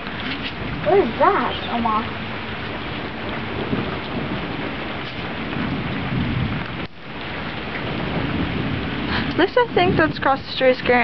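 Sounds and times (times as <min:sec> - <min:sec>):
rain falling: 0:00.0 - 0:11.0
thunder rumbling: 0:00.0 - 0:11.0.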